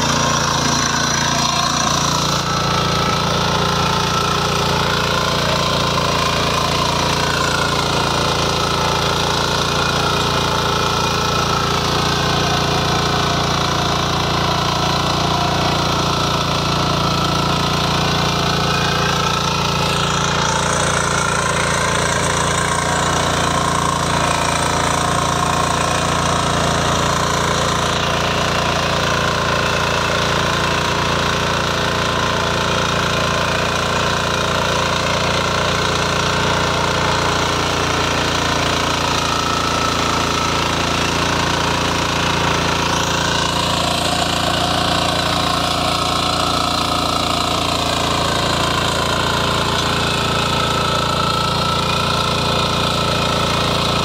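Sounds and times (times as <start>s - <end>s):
tines churning soil: 0.0s - 54.0s
weeder engine running: 0.0s - 54.0s.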